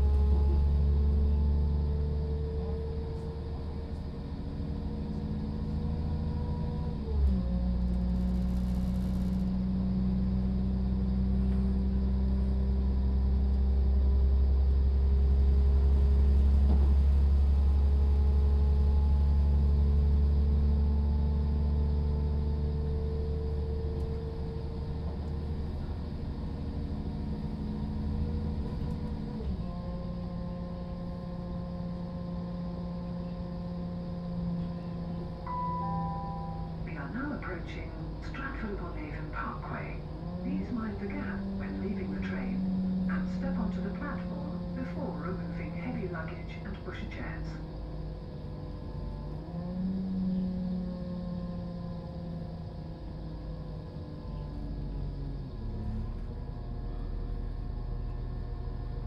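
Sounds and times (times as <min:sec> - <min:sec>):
train diesel engine running: 0:00.0 - 0:59.0.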